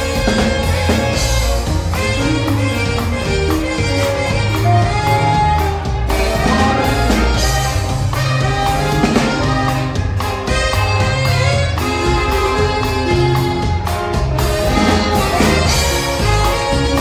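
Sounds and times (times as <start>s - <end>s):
bass line: 0.0s - 17.0s
steady drums: 0.0s - 17.0s
twelve-string guitar melody: 0.0s - 17.0s.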